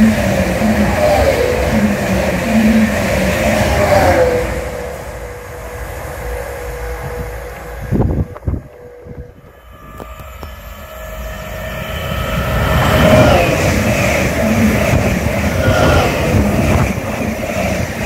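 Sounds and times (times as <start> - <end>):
train rumble and rail noise: 0.0 - 18.0.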